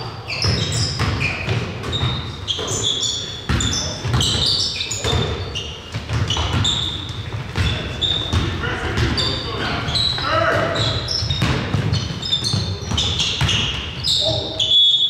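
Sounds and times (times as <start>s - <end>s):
sneakers squeaking on floor: 0.0s - 15.0s
basketball bouncing: 0.3s - 9.4s, 10.0s - 14.1s.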